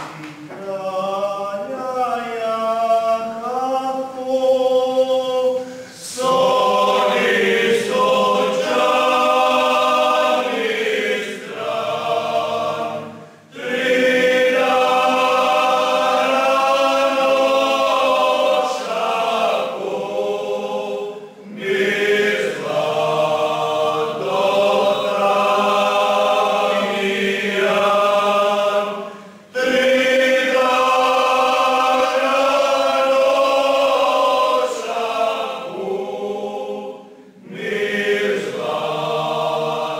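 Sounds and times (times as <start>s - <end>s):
men singing a cappella in harmony: 0.5s - 39.9s.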